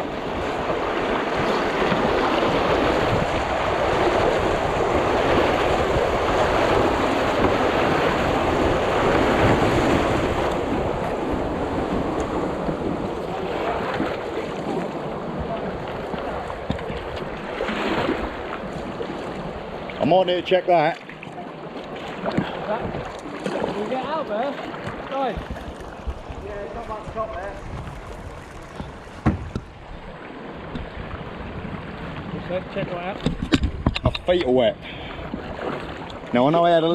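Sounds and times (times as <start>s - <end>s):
rushing water: 0.0s - 36.9s.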